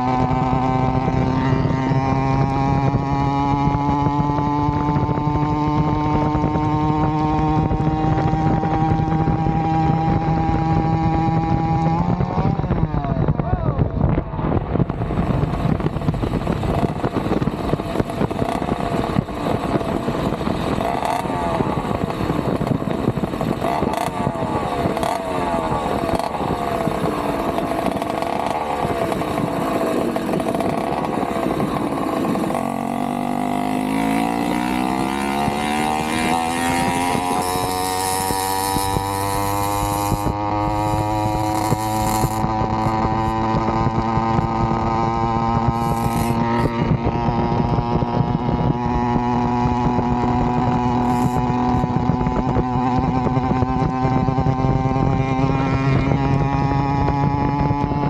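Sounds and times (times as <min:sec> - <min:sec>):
two-stroke engine revving: 0:00.0 - 0:13.3, 0:14.6 - 0:58.0.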